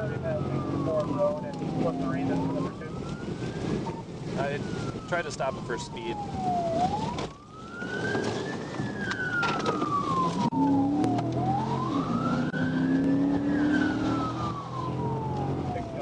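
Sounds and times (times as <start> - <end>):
car engine and road noise: 0.0 - 16.0
police siren wailing: 0.0 - 16.0.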